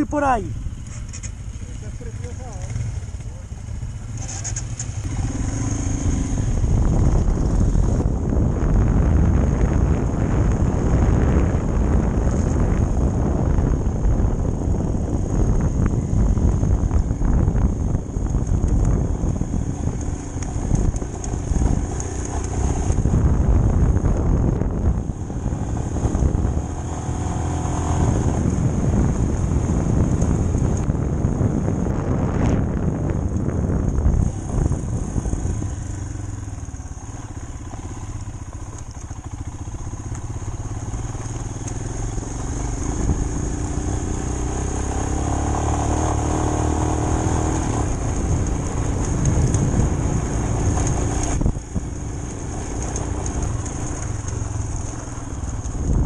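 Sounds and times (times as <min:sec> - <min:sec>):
motorcycle engine running: 0:00.0 - 0:56.0
wind buffeting microphone: 0:00.1 - 0:56.0.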